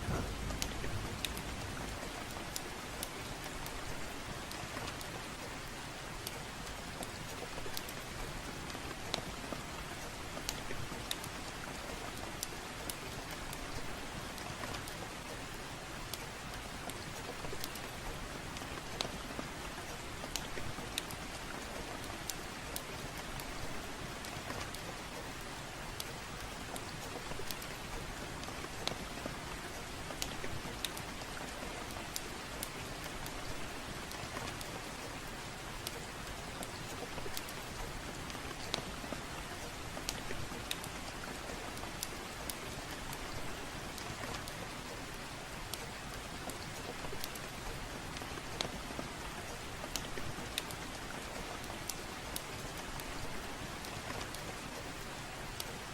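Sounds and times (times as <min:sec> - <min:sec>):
fireplace crackling: 0:00.0 - 0:55.9
gentle rain: 0:00.0 - 0:55.9.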